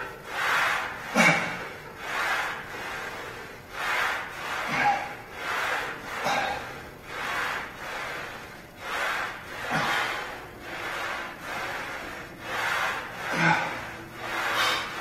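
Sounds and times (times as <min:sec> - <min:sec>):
man breathing hard: 0:00.2 - 0:15.0.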